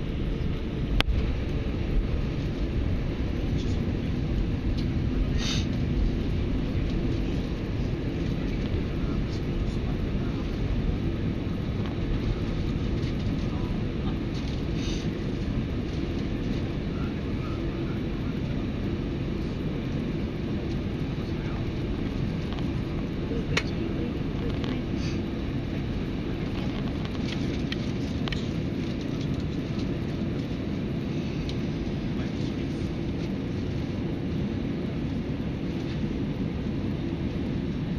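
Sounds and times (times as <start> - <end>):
jet engine roar in cabin: 0.0 - 37.9.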